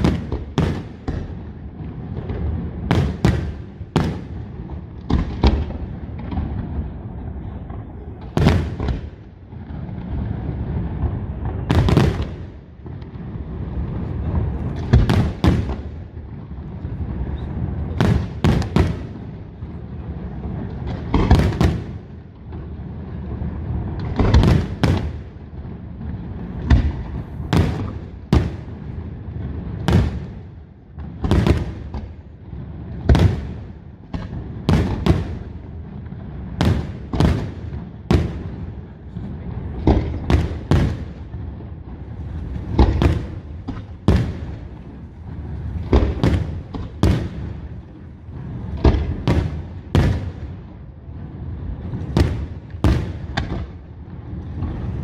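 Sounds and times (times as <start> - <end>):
fireworks bursting with sharp bangs: 0.0 - 55.0
rumble of echoing detonations: 0.0 - 55.0.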